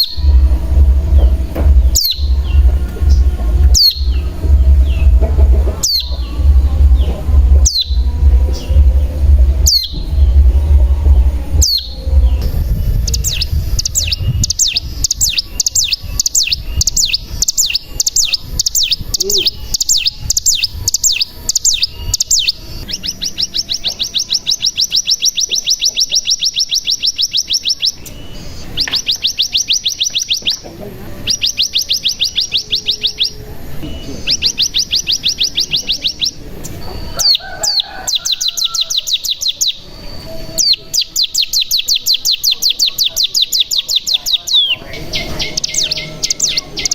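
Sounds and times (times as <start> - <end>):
bird rapid trills: 0.0 - 30.6, 34.2 - 46.9.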